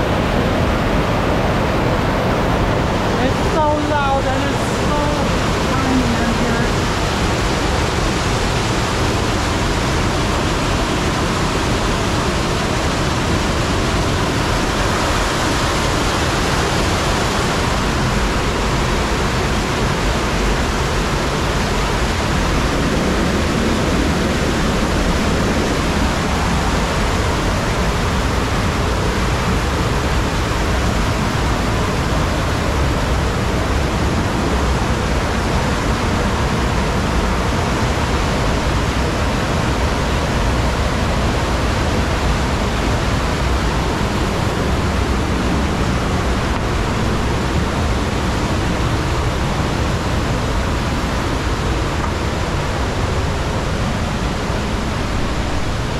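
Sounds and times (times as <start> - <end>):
rushing water in grotto: 0.0 - 55.9.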